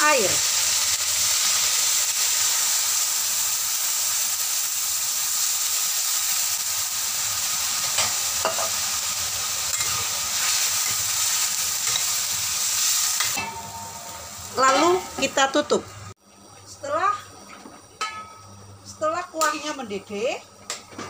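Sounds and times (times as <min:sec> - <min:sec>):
oil sizzling in a wok: 0:00.0 - 0:21.0.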